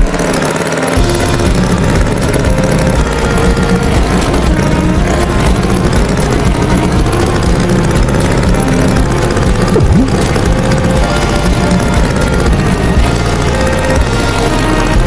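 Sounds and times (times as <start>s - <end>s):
tractor engine rumbling: 0.0s - 15.0s.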